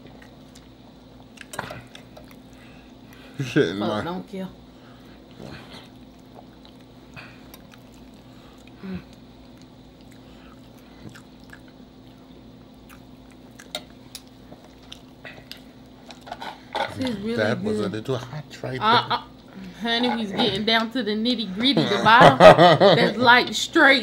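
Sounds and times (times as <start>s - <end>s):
people chewing food: 0.0s - 4.0s, 4.6s - 20.7s
steady low hum: 0.0s - 24.0s.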